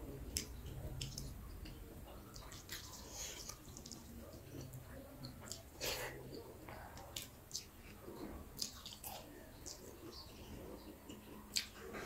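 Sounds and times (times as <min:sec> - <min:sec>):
quiet chewing: 0:00.0 - 0:12.0.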